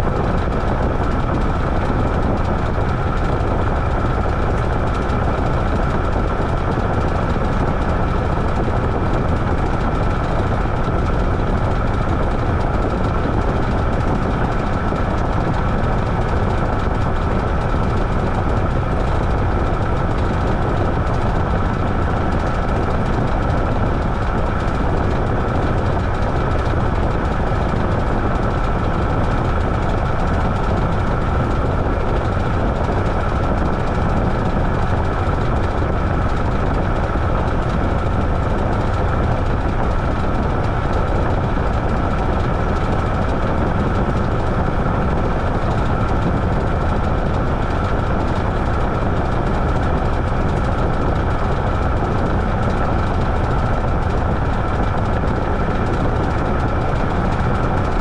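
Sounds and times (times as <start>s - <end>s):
washing machine running: 0.0s - 58.0s.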